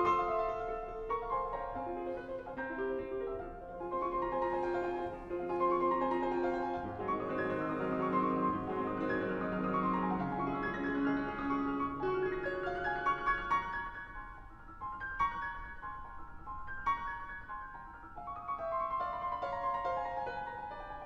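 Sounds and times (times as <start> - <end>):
solo classical piano: 0.0 - 21.0.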